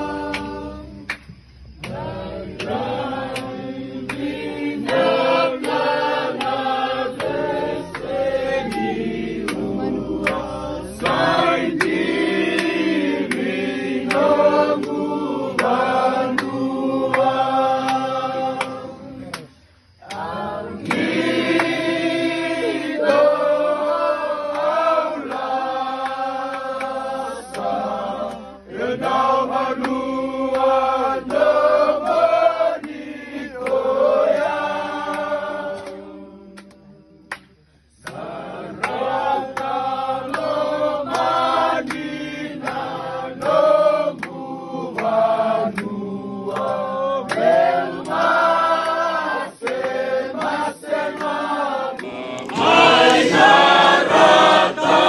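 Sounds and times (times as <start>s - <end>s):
choir singing in parts: 0.0s - 55.0s.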